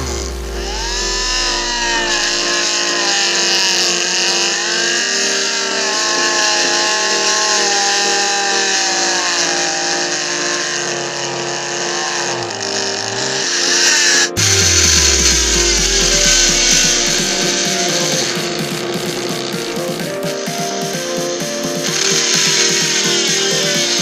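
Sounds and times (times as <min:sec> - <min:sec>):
background music: 0:00.0 - 0:24.0
small motor whining: 0:00.0 - 0:24.0.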